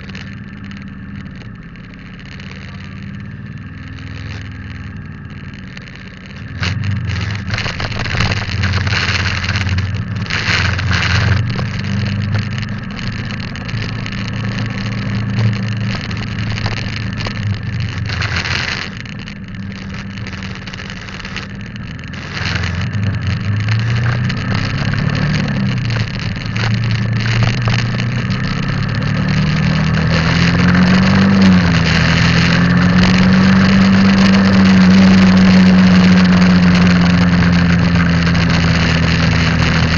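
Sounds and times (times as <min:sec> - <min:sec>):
motorbike engine revving: 0:00.0 - 0:39.9
wind noise on microphone: 0:00.0 - 0:39.9.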